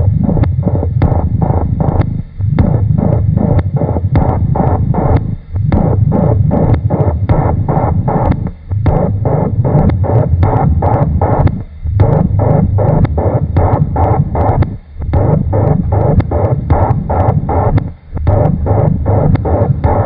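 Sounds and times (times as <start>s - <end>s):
loud low electronic rumble: 0.0s - 20.0s
ticking pulse: 0.0s - 20.0s.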